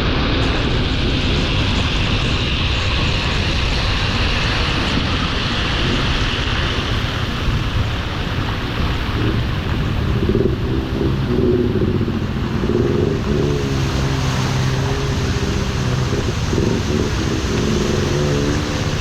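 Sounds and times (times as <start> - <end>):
vehicle engine running: 0.0 - 19.0
wind and road noise: 0.0 - 19.0.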